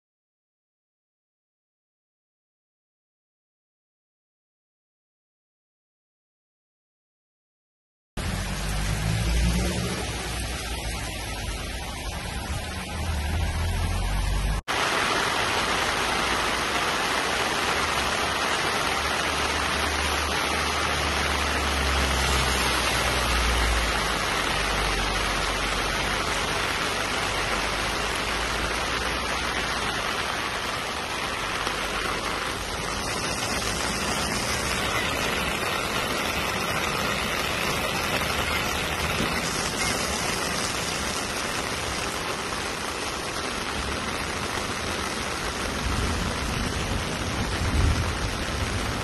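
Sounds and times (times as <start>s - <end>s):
heavy rain pouring: 8.2s - 49.0s.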